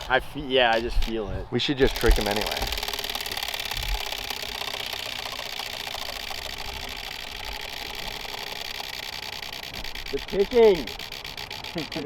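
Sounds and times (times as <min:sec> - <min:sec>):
prize wheel clicker ticking: 0:01.8 - 0:12.0.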